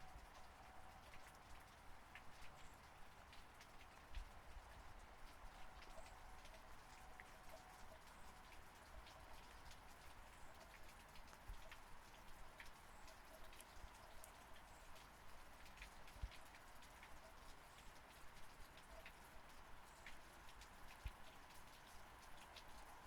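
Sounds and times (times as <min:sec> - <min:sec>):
faint rain with ticking drops: 0:00.0 - 0:23.0.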